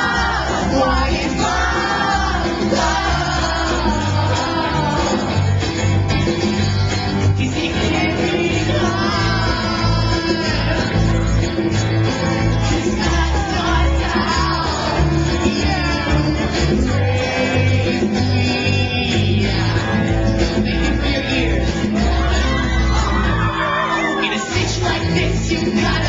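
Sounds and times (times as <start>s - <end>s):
man singing into microphone: 0.0s - 5.4s, 7.3s - 11.4s, 12.7s - 23.4s, 24.0s - 26.0s
acoustic guitar strumming: 0.0s - 26.0s
bass-heavy accompaniment: 0.0s - 26.0s.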